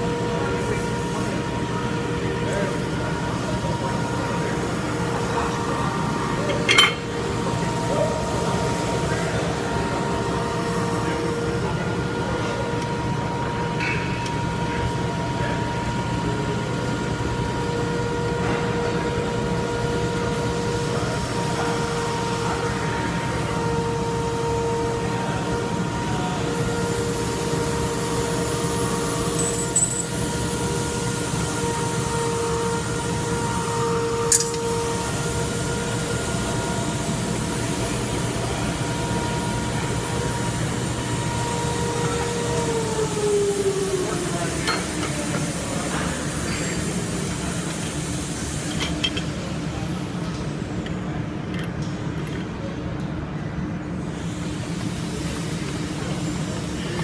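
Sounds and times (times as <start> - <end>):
shop machinery humming: 0.0 - 57.0.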